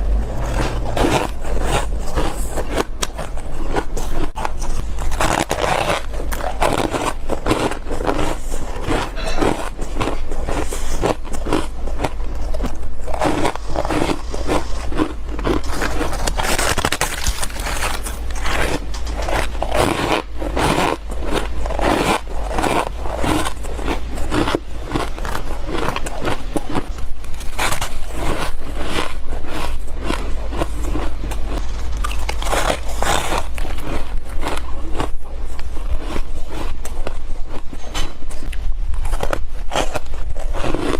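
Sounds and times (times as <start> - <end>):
teeth crunching frost: 0.0 - 40.9.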